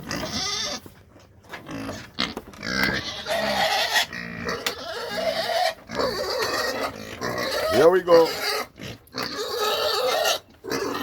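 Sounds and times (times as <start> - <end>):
pigs squealing: 0.0 - 0.9, 1.6 - 11.0
pigs grunting: 1.6 - 11.0.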